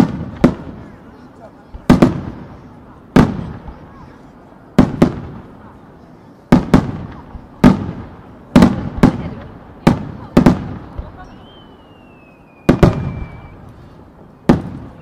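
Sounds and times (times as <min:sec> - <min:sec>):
firework bangs with echo: 0:00.0 - 0:04.1, 0:04.7 - 0:05.7, 0:06.5 - 0:11.8, 0:12.5 - 0:13.6, 0:14.4 - 0:15.0.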